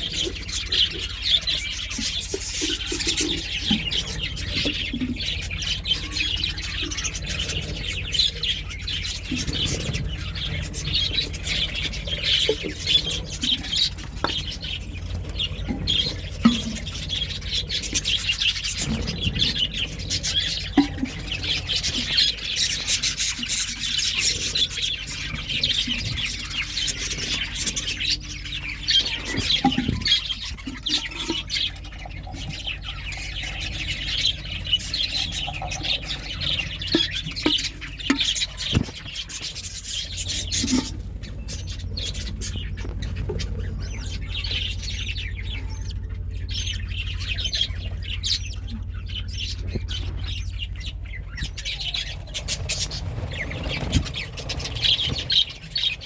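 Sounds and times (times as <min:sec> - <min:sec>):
budgerigars chattering and chirping: 0:00.0 - 0:56.0
steady low hum: 0:00.0 - 0:56.0.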